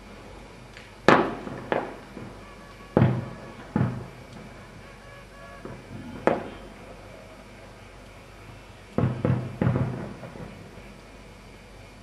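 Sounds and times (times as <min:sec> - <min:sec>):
fireworks bursting with echo: 0:00.8 - 0:11.5.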